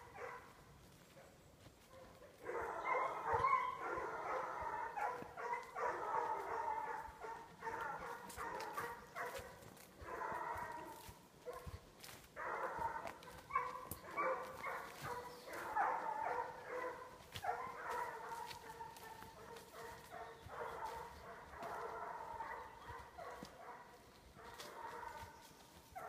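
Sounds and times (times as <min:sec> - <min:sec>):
dogs baying: 0:00.0 - 0:00.6, 0:01.8 - 0:26.0.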